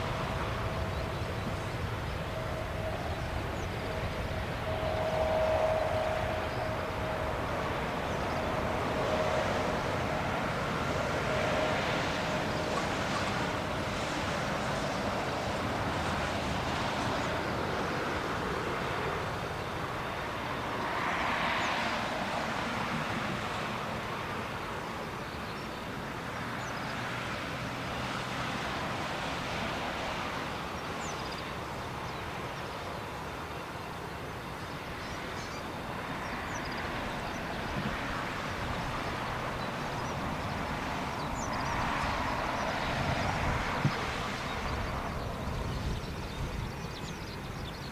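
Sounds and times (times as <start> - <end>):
jet engines at takeoff: 0.0 - 47.9.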